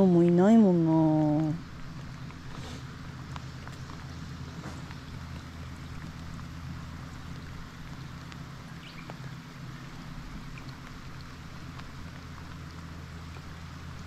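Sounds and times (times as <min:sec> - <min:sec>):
heavy rain on water: 0:00.0 - 0:14.0
raindrop ticks: 0:00.0 - 0:14.0
steady low hum: 0:00.0 - 0:14.0.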